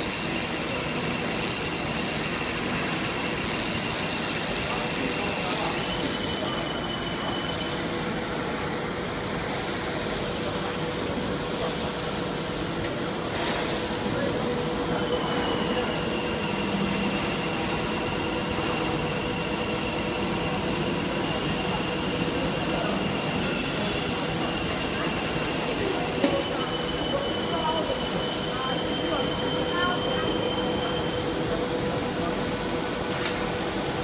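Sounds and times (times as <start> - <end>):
film blowing machine running: 0.0 - 34.0
thin high machine whine: 0.0 - 34.0.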